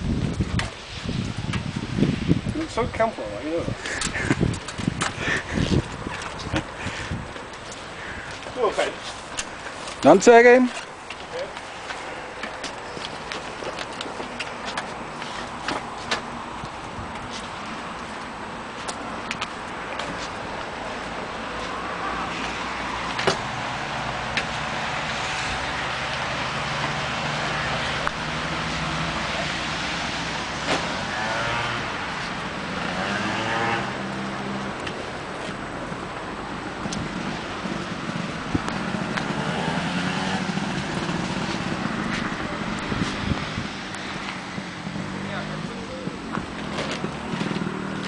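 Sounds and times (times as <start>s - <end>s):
motor scooter engines running: 0.0s - 48.0s.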